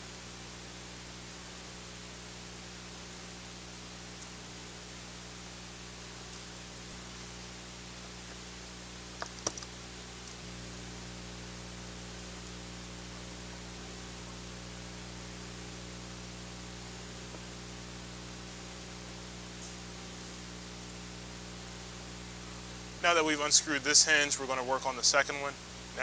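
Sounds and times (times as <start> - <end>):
low electrical hum: 0.0 - 26.0
steady hiss: 0.0 - 26.0.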